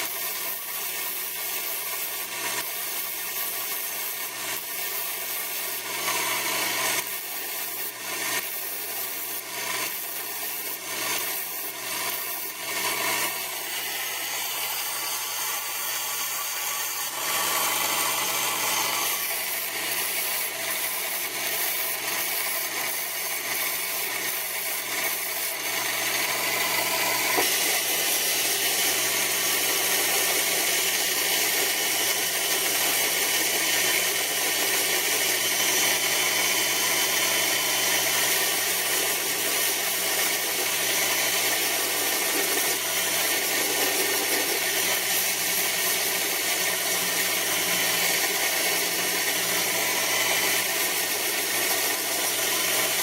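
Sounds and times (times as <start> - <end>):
power tool rasping: 0.0 - 53.0.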